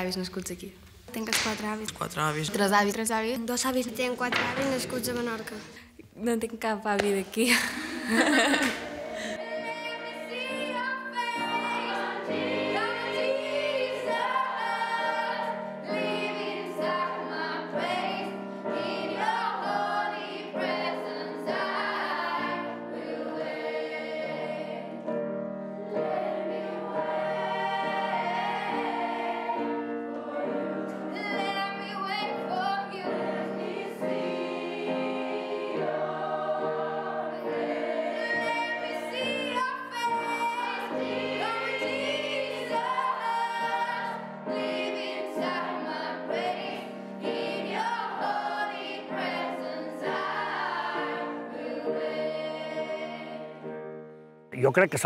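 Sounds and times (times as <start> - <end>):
children's choir singing: 8.2 - 53.8.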